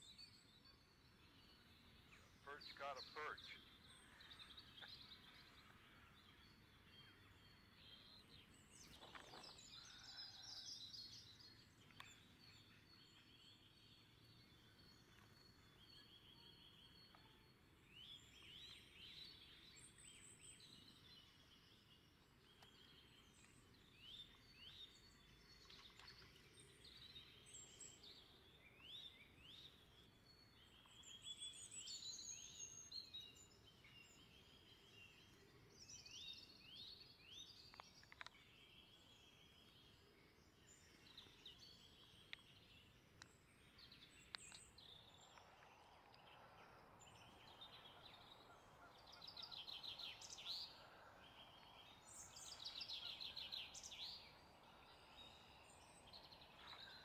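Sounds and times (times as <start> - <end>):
low steady background noise: 0.0 - 57.0
songbirds chirping and trilling: 0.0 - 57.0.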